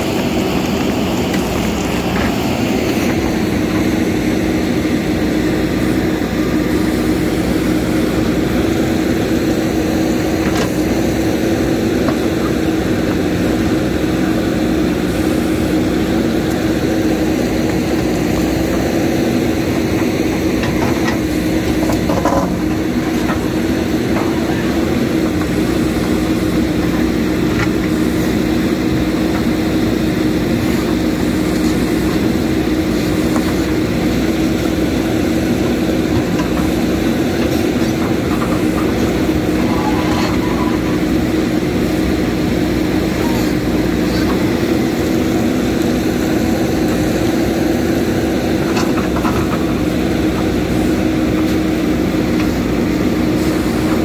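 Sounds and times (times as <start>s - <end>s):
backhoe dragging earth and stones: 0.0s - 54.0s
diesel engine under load: 0.0s - 54.0s.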